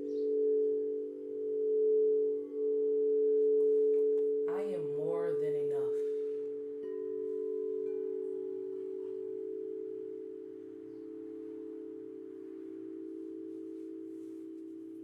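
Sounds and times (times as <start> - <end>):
singing bowls humming: 0.0 - 15.0.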